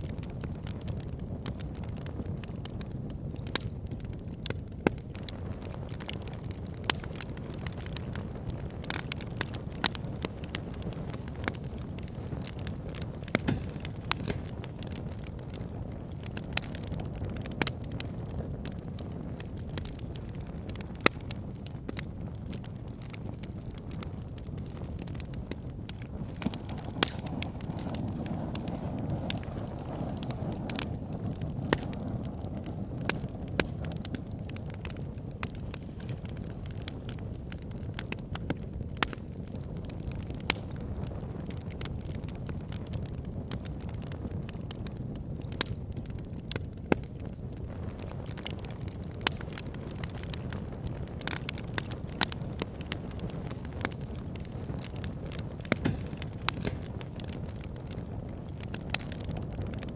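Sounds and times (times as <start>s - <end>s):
fire rumbling and hissing: 0.0s - 59.9s
logs crackling and popping: 0.0s - 59.9s.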